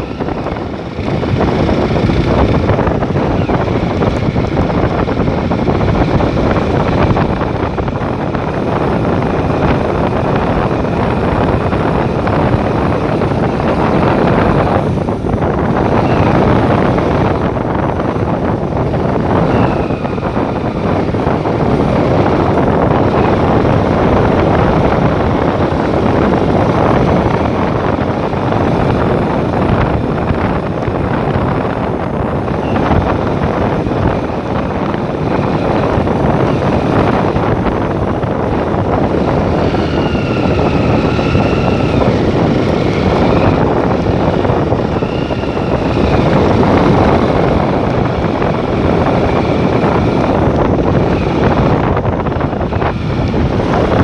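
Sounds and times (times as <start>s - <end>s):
vehicle engine and road noise: 0.0s - 54.0s
wind buffeting microphone: 0.0s - 54.0s.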